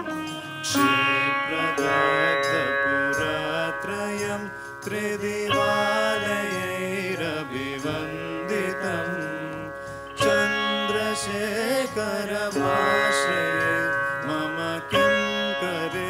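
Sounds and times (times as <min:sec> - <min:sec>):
gliding melody: 0:00.0 - 0:16.0.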